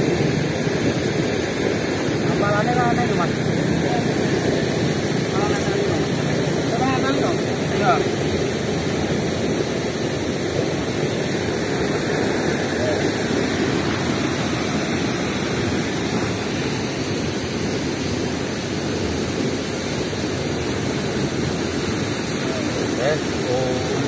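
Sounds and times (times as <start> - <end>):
water rushing through sluice gates: 0.0 - 24.0.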